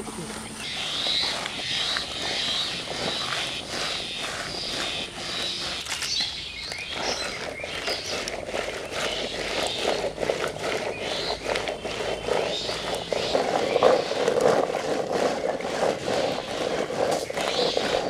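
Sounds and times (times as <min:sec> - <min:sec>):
birds chirping: 0:00.0 - 0:18.0
mushrooms washed in basket: 0:00.0 - 0:18.0.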